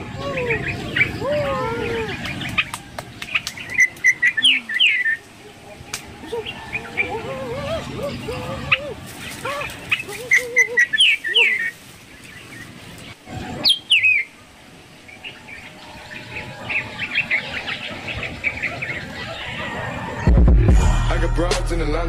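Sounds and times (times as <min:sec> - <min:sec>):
small birds chirping: 0:00.0 - 0:20.4.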